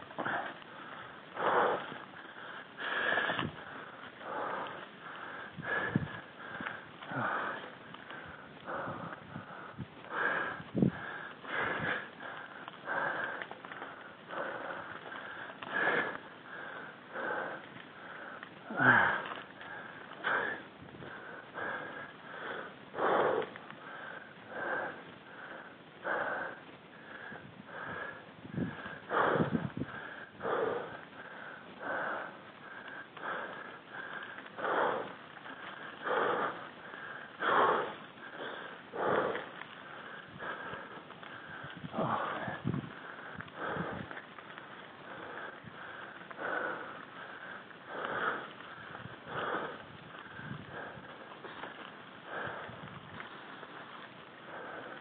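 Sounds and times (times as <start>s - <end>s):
person breathing hard: 0.0s - 55.0s.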